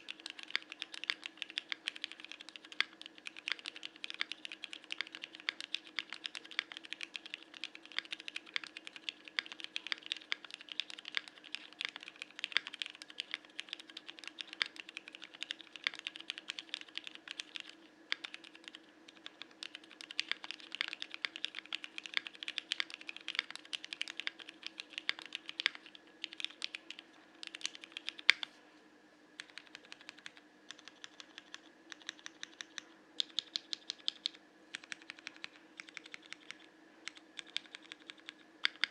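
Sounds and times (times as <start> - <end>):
mechanical keyboard typing clacks: 0.0 - 28.4, 29.4 - 38.9
faint low hum: 0.0 - 38.9.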